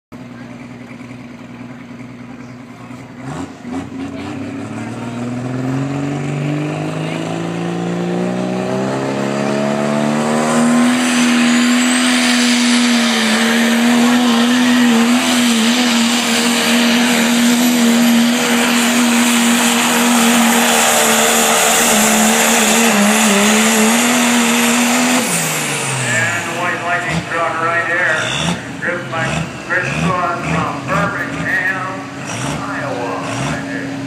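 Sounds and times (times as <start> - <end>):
diesel truck engine high revs: 0.2 - 34.0.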